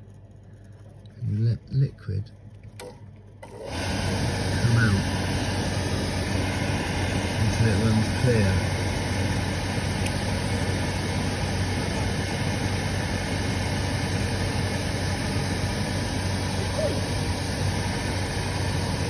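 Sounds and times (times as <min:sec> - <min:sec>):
boiler burner motor humming: 0:00.0 - 0:19.0.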